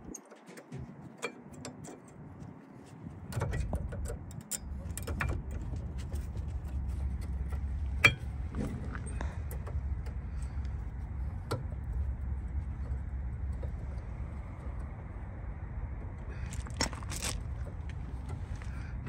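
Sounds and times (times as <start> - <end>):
brake pads clicking: 0.1 - 19.0
low steady rumble: 0.8 - 19.0.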